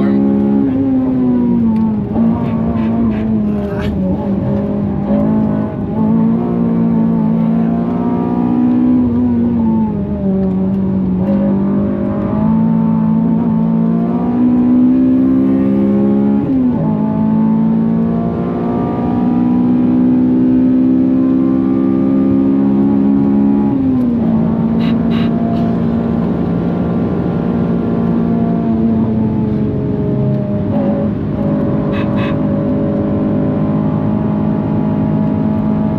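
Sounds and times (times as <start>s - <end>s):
car engine accelerating hard: 0.0s - 35.9s.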